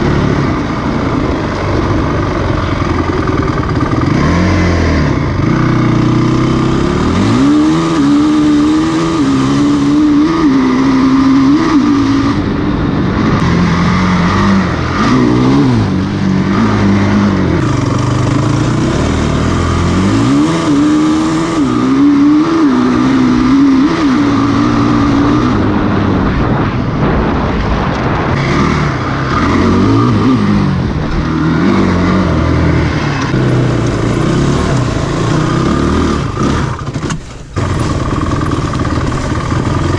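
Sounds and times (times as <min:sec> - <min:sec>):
quad bike engine revving: 0:00.0 - 0:26.7, 0:28.3 - 0:39.9.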